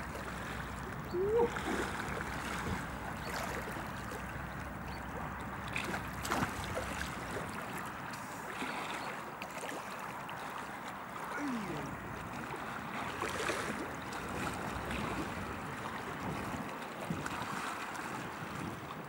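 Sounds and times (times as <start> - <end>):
river water rushing and lapping: 0.0 - 19.0.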